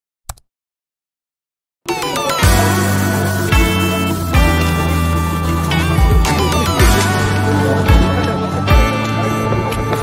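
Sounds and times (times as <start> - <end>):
sustained chords: 1.9 - 10.0.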